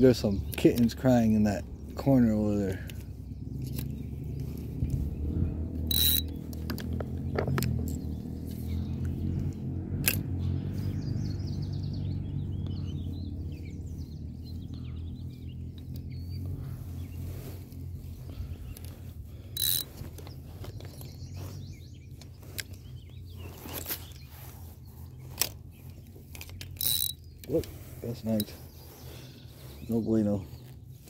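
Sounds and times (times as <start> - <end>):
birds chirping: 0.0 - 31.0
steady low hum: 0.0 - 31.0.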